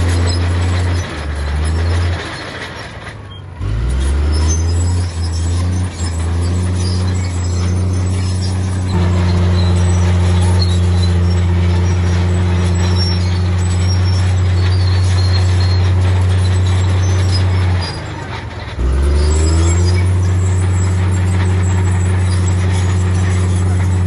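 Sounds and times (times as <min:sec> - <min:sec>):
heavy diesel engine revving: 0:00.0 - 0:24.0.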